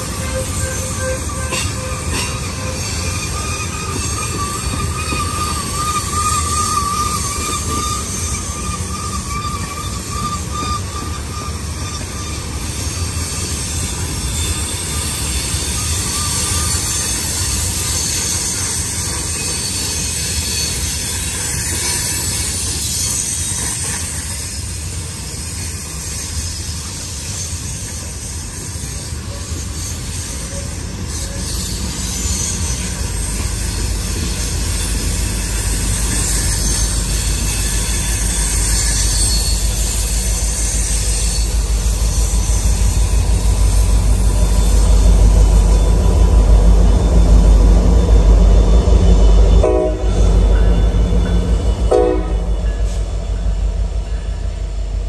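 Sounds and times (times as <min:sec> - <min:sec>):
diesel train rumble: 0:00.0 - 0:55.0.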